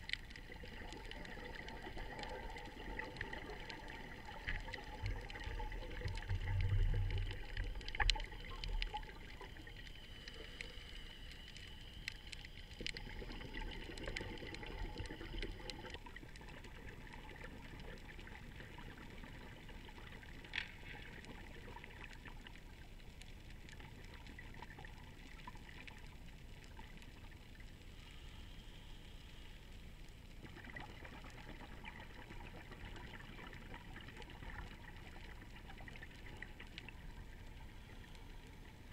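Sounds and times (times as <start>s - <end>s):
sharp clicks and crackles: 0.0s - 33.4s
low rumble of water: 0.0s - 38.9s
muffled underwater hiss: 0.0s - 38.9s.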